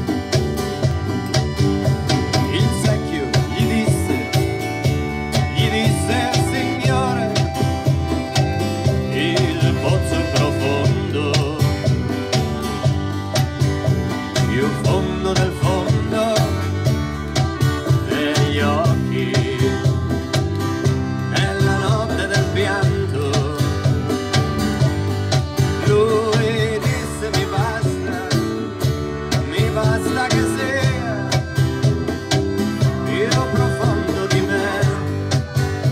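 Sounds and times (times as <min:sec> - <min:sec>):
accordion: 0:00.0 - 0:35.9
acoustic guitar: 0:00.0 - 0:35.9
congas: 0:00.0 - 0:35.9
electric bass: 0:00.0 - 0:35.9.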